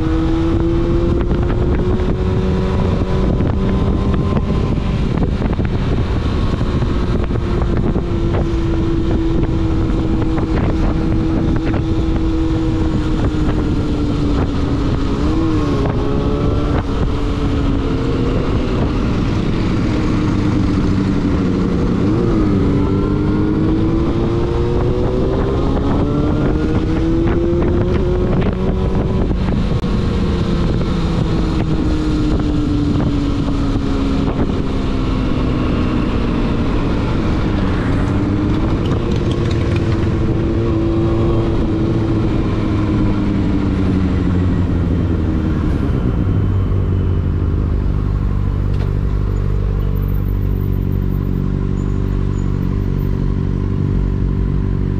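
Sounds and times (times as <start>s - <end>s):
motorcycle engine: 0.0s - 54.9s.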